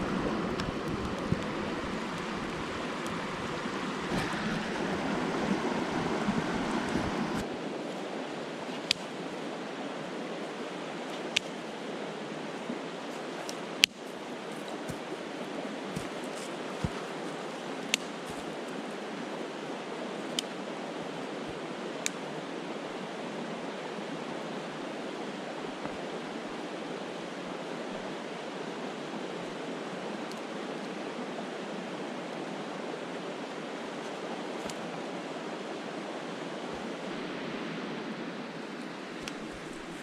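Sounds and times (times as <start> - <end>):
brook water flowing: 0.0 - 40.0.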